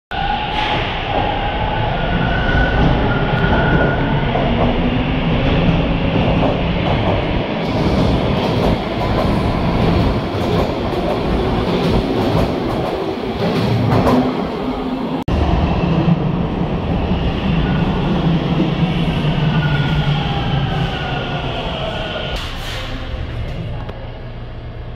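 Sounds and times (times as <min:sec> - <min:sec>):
subway train motors whining: 0:00.1 - 0:24.9.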